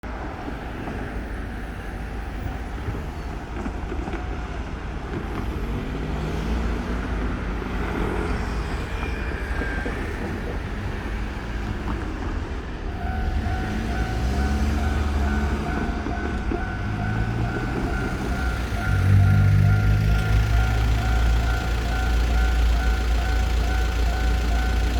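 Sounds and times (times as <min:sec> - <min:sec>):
level-crossing warning bell: 0:01.4 - 0:12.1, 0:12.8 - 0:24.9
vehicles passing: 0:04.7 - 0:24.9.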